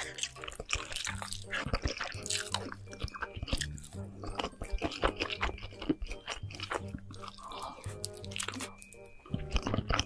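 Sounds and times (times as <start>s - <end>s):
wet chewing of noodles: 0.0s - 10.0s.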